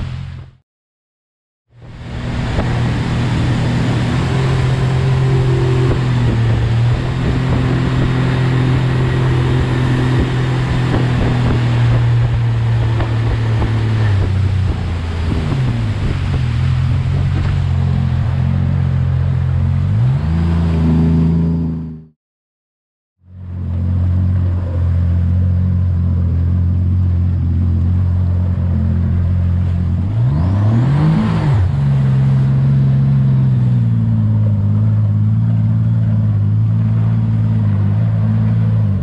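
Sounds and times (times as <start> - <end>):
water rushing past hull: 0.0 - 0.6, 1.7 - 21.9, 23.2 - 39.0
outboard motor running: 1.7 - 22.0, 23.2 - 39.0.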